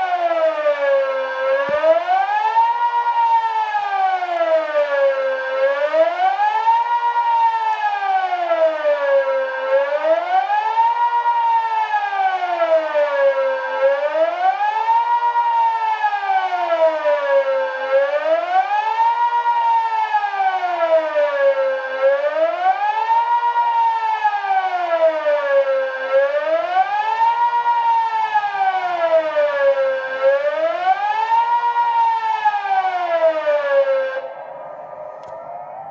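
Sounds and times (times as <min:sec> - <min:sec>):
civil defence siren wailing: 0:00.0 - 0:35.9.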